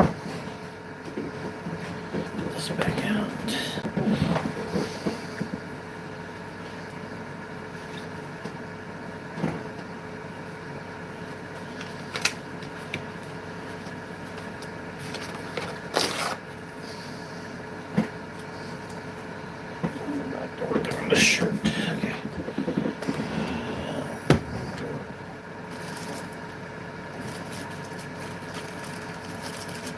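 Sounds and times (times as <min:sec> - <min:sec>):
room hum: 0:00.0 - 0:29.9.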